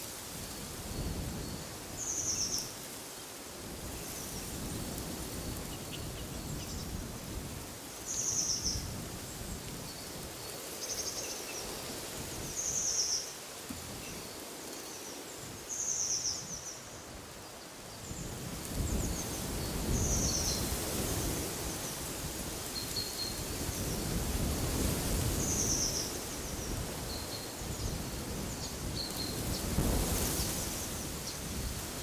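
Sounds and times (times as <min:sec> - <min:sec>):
wind in trees: 0:00.0 - 0:32.0.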